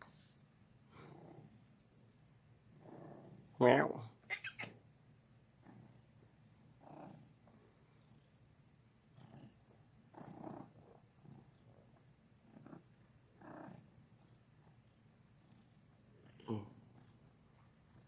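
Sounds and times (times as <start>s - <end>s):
cat purring: 0.9s - 3.6s, 5.5s - 18.0s.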